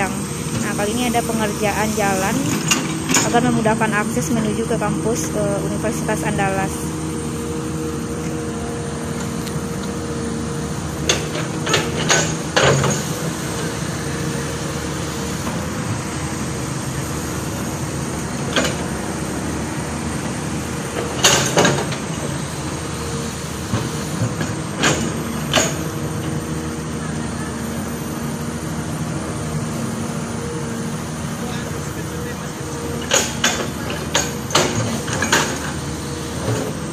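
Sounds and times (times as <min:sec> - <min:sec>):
machinery engine hum: 0:00.0 - 0:36.9.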